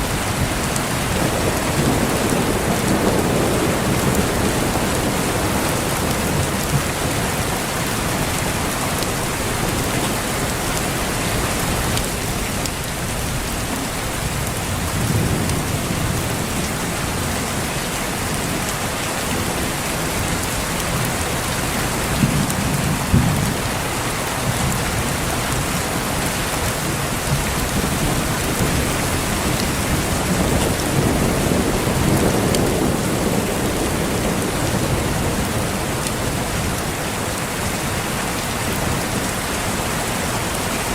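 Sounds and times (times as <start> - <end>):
heavy rainfall: 0.0 - 40.9
low rolling thunder: 0.1 - 10.5, 13.0 - 18.6, 19.3 - 37.8.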